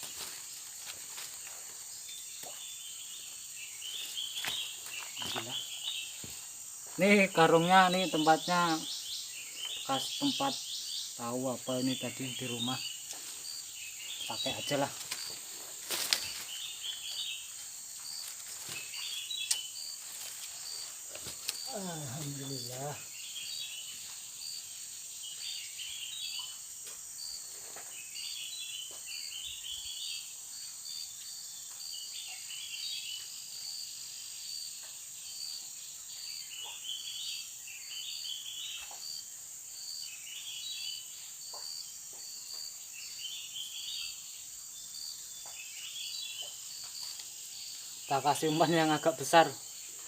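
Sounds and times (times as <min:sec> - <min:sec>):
insect chirping calls: 0:00.0 - 0:50.0
insects droning and trilling: 0:00.0 - 0:50.0.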